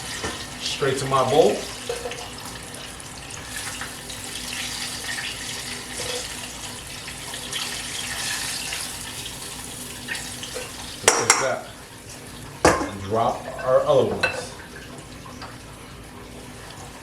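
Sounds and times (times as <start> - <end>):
hot oil sizzling in fryer: 0.0 - 17.0.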